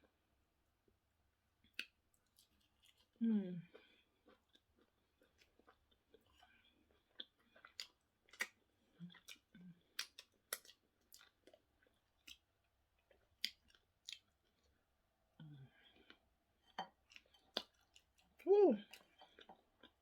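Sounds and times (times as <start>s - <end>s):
person chewing food: 1.6s - 20.0s.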